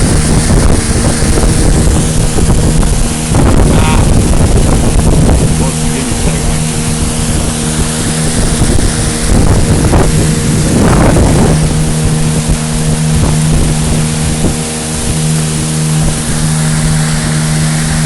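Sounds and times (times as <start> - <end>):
motorboat engine running: 0.0 - 18.0
water rushing: 0.0 - 18.0
wind noise: 0.0 - 18.0.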